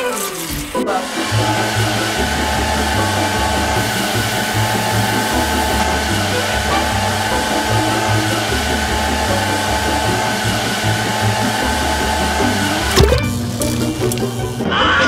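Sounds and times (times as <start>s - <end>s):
rushing machine noise: 0.0s - 15.0s
low pulsing: 1.0s - 14.7s.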